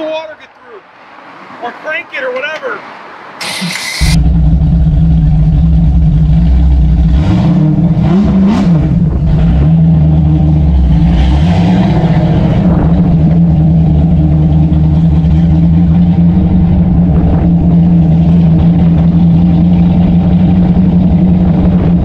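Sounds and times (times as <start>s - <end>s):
car engine idling and revving: 3.4s - 22.0s.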